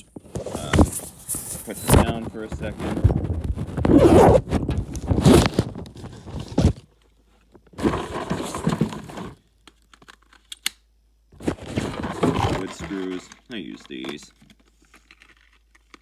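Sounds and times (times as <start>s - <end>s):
rustling and crinkling: 0.0s - 10.5s, 11.4s - 16.0s.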